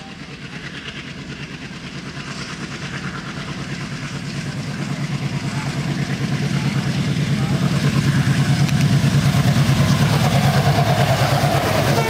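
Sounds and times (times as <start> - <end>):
diesel locomotive engines throbbing: 0.0 - 12.0.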